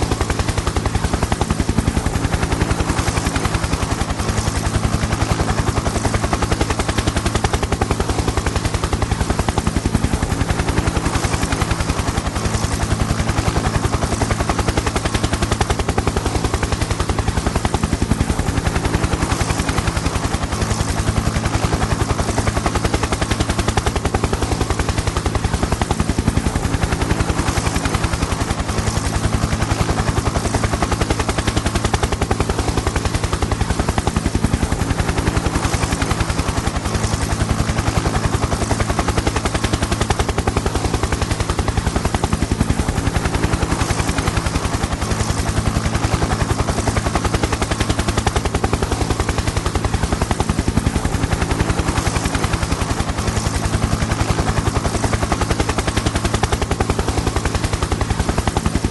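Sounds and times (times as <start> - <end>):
helicopter rotor chop: 0.0 - 58.9.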